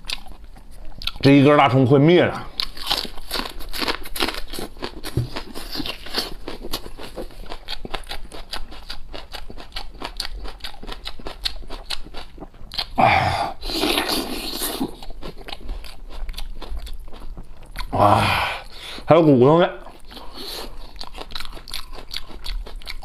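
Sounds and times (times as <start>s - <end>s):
crunchy chewing of green onion: 0.0s - 1.3s, 2.4s - 19.1s, 19.8s - 23.0s.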